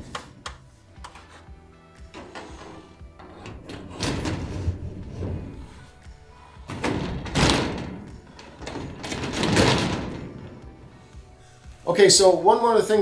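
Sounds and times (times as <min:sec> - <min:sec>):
metal knocking and scraping: 0:00.0 - 0:11.4
background music: 0:00.0 - 0:13.0.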